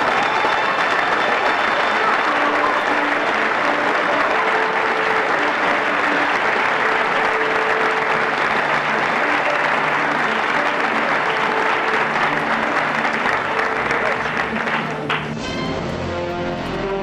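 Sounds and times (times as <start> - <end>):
applause: 0.0 - 15.9
faint music: 0.0 - 17.0.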